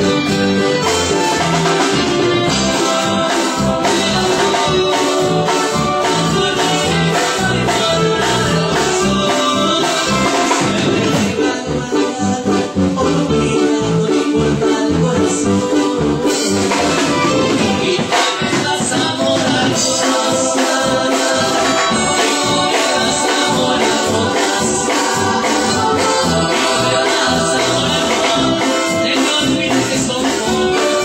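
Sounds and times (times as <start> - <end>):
bass drum and percussion beat: 0.0 - 31.0
keyboard or accordion: 0.0 - 31.0
person singing: 0.0 - 31.0.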